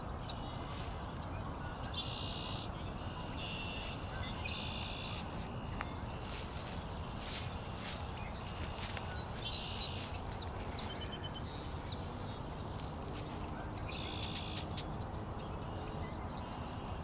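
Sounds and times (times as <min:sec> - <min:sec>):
steady low rumble: 0:00.0 - 0:16.7
small birds trilling and chipping: 0:00.0 - 0:17.0.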